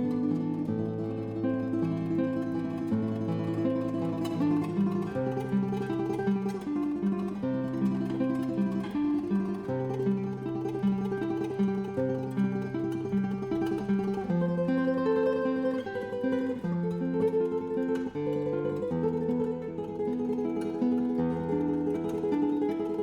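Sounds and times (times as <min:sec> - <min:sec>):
plucked guitar-like melody: 0:00.0 - 0:23.0.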